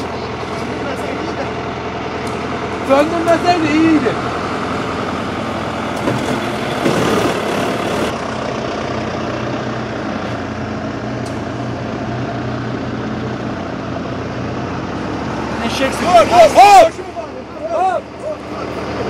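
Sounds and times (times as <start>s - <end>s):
tractor diesel engine idling: 0.0s - 19.0s.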